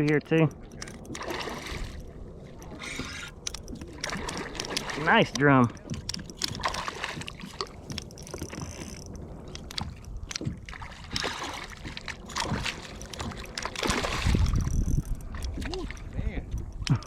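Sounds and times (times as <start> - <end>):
water splashing around kayak: 0.0 - 17.0.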